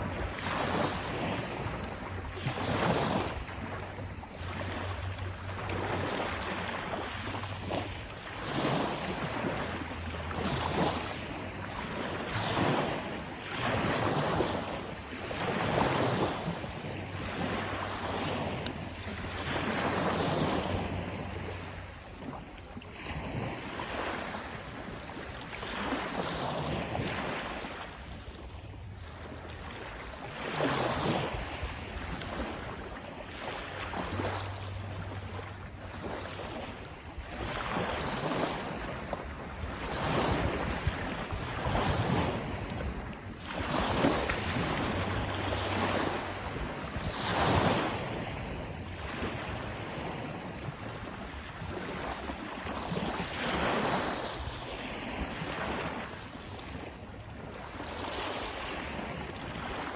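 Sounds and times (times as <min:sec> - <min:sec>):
sea waves surging: 0:00.0 - 0:59.9.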